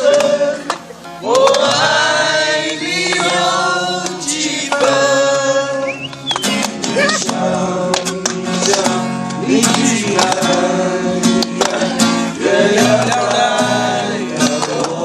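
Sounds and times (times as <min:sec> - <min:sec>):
men singing: 0:00.0 - 0:15.0
strummed acoustic guitar: 0:00.0 - 0:15.0.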